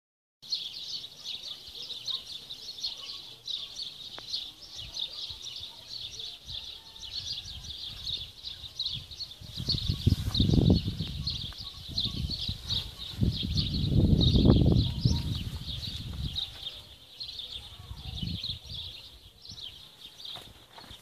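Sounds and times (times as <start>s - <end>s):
small birds chirping chorus: 0.4s - 21.0s.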